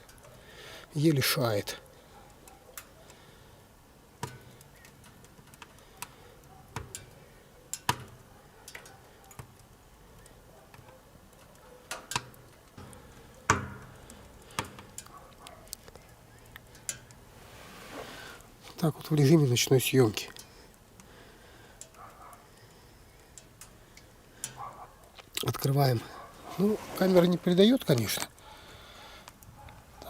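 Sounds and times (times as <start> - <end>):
wood stove cracks and ticks: 0.0 - 17.4, 18.3 - 26.4, 27.5 - 30.0.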